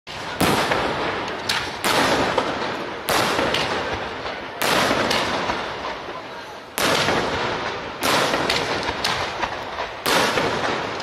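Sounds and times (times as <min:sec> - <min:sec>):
firework shells bursting: 0:00.1 - 0:11.0.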